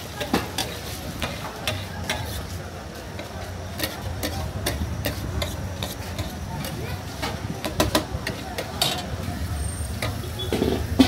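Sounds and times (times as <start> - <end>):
food sizzling: 0.0 - 11.0
metal spatula scraping griddle: 0.2 - 2.6, 3.2 - 11.0.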